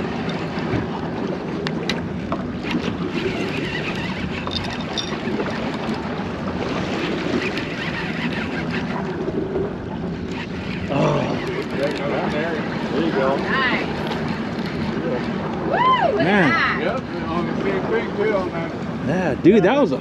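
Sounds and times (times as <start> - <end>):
fishing boat engine running: 0.0 - 20.0.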